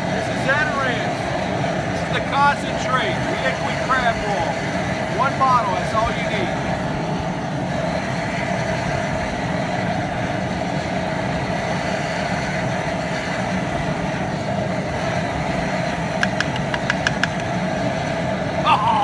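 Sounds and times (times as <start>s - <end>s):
propane burner rushing: 0.0s - 19.0s.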